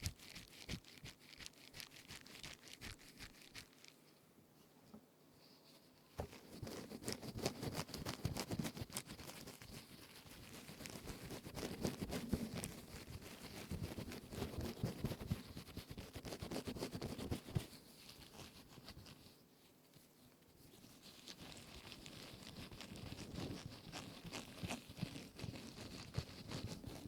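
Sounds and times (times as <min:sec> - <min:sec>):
sponge rubbed and squeezed: 0:00.0 - 0:04.0, 0:06.2 - 0:19.4, 0:20.6 - 0:27.0.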